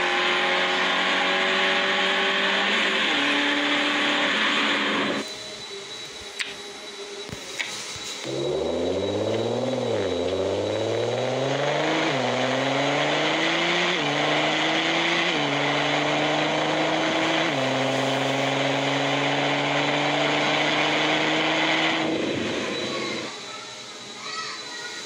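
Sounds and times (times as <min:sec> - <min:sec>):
simulated car engine accelerating: 0:00.0 - 0:05.4, 0:08.1 - 0:23.4.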